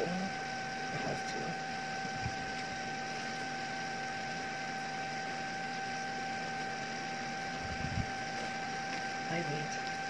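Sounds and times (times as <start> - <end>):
hair-removal device whine: 0.0 - 10.0.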